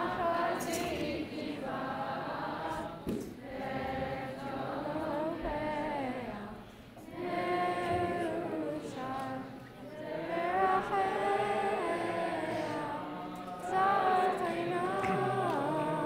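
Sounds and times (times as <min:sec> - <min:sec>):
children singing in unison: 0:00.0 - 0:16.0.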